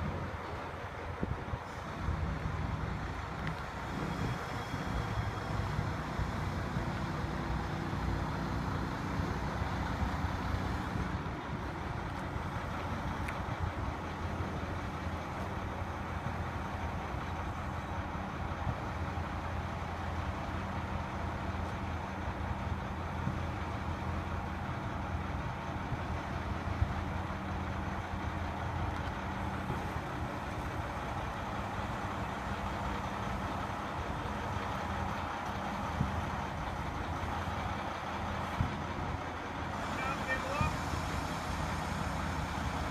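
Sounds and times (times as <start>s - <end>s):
heavy truck engine idling: 0.0s - 42.9s.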